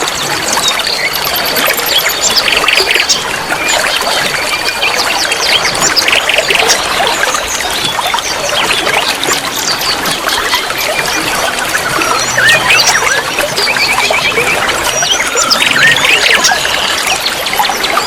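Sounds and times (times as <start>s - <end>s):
running water: 0.0s - 18.0s
small birds chirping: 0.0s - 18.0s.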